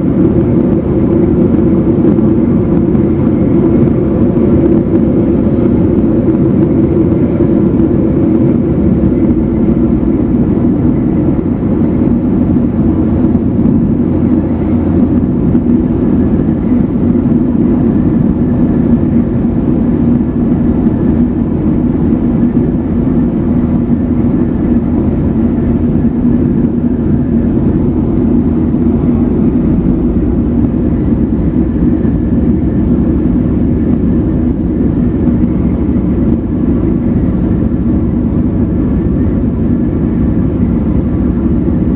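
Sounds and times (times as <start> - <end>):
light aircraft engine drone: 0.0 - 41.9.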